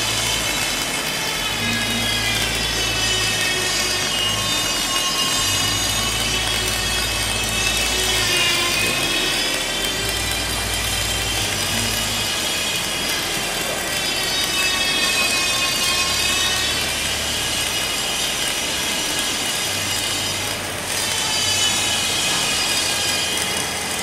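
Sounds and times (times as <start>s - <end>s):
fume extractor whine: 0.0s - 24.0s
welding arc crackling: 0.0s - 24.0s.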